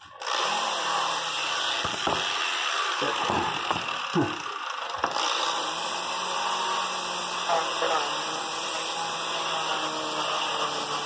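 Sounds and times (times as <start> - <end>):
electric die grinder sanding: 0.0 - 11.0.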